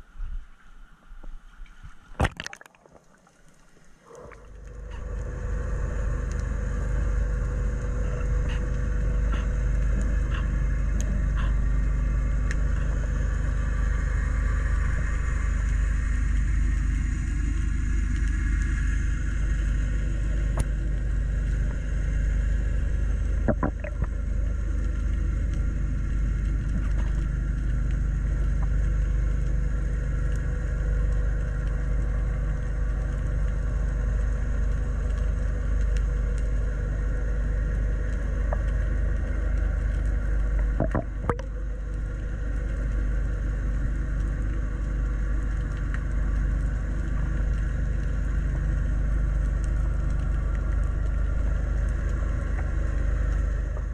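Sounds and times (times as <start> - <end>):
underwater boat engine drone: 0.0 - 53.9.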